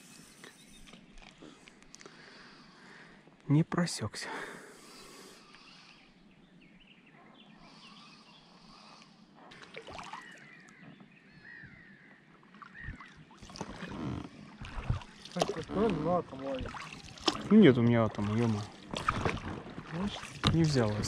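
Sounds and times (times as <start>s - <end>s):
faint water lapping: 0.0s - 3.4s, 4.2s - 21.0s.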